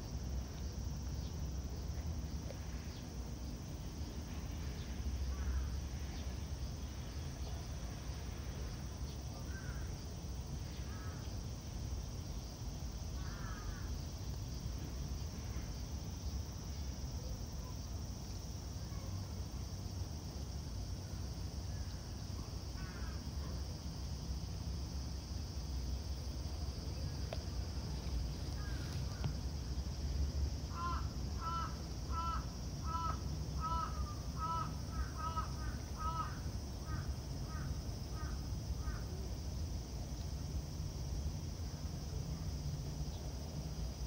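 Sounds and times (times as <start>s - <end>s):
low outdoor rumble: 0.0s - 44.0s.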